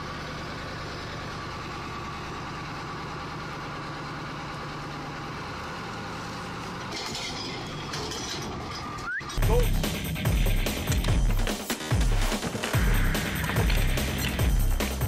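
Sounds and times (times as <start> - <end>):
machine engine running steadily: 0.0 - 7.0, 8.9 - 15.0.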